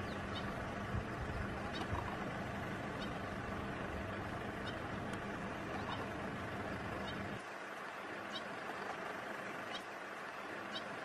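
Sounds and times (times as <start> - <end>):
faint hum: 0.0 - 11.0
low rumbling background noise: 0.0 - 11.0.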